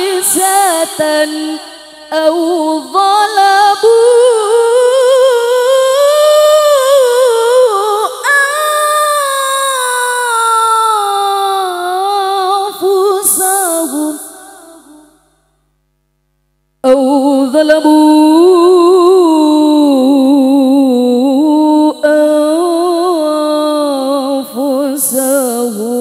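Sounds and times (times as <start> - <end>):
woman singing unaccompanied: 0.0 - 15.2, 16.8 - 26.0.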